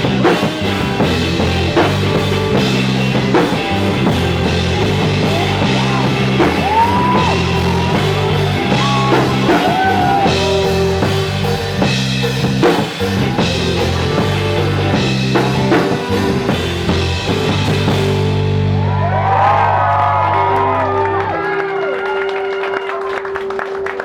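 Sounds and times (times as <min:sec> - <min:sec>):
drum kit: 0:00.0 - 0:20.2
bass guitar: 0:00.0 - 0:24.0
electric guitars: 0:00.0 - 0:24.0.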